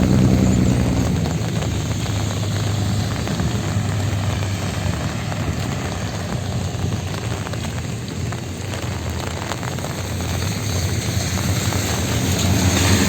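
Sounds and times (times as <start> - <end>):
passing traffic rumble: 0.0 - 13.0
rain falling on street: 0.0 - 13.0.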